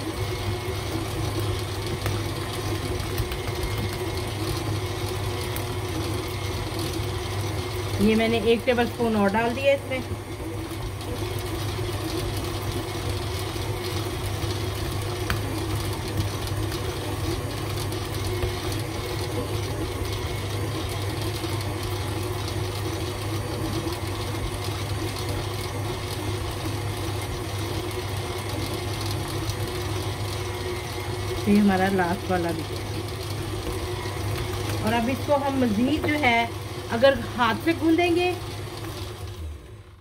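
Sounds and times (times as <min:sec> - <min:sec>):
stand mixer motor humming: 0:00.0 - 0:40.0.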